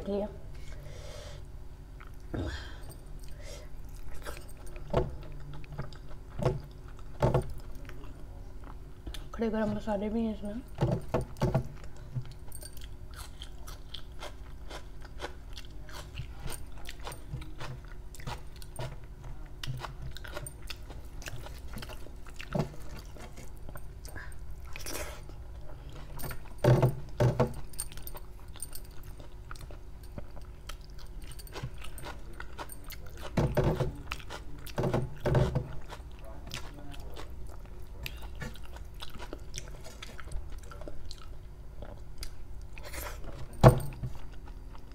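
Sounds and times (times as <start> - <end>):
chewing and wet mouth sounds: 1.9 - 9.4, 11.7 - 44.9.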